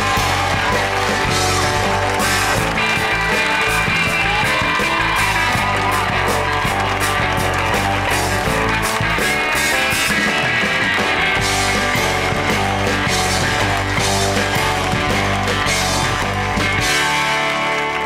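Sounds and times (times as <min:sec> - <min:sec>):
bass guitar: 0:00.0 - 0:18.0
drums: 0:00.0 - 0:18.0
rock instrumental band playing: 0:00.0 - 0:18.0.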